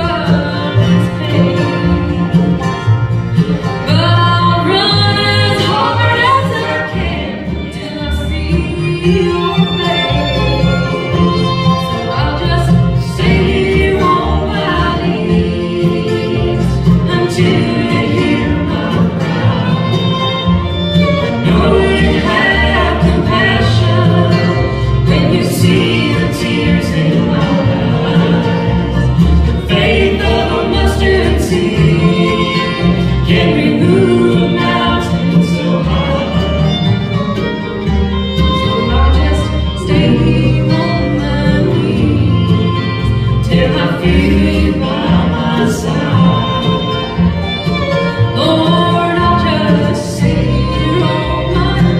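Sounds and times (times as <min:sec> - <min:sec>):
people singing: 0:00.0 - 0:02.8, 0:03.9 - 0:37.4, 0:38.5 - 0:51.9
bluegrass band playing: 0:00.0 - 0:51.9.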